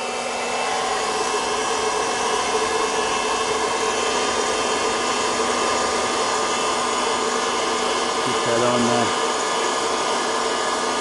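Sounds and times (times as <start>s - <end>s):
popcorn popper fan whirring: 0.0s - 11.0s.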